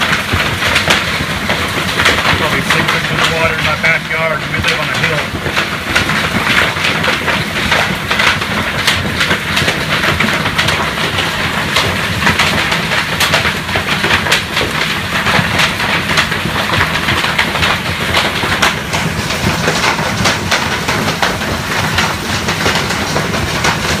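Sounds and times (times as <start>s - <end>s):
hailstones clattering: 0.0s - 24.0s.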